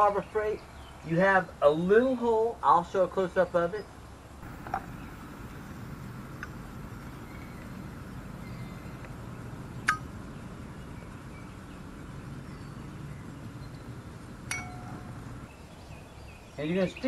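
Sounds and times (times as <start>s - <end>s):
low steady background: 0.0s - 17.0s.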